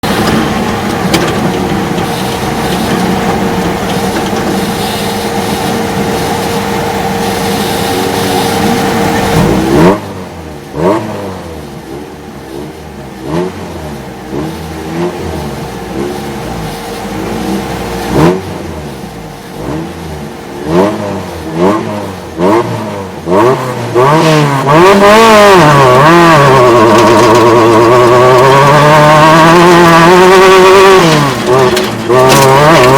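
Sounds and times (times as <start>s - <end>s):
engine revving and throttle blips: 0.0s - 32.9s
race vehicle engines droning: 0.0s - 32.9s.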